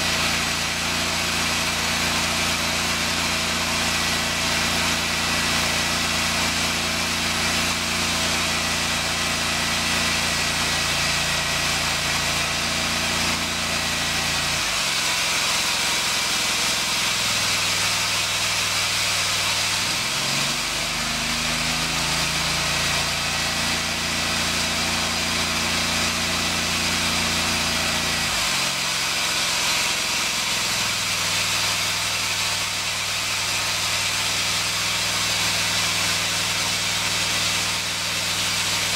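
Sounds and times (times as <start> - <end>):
blowing machine hum: 0.0 - 38.9.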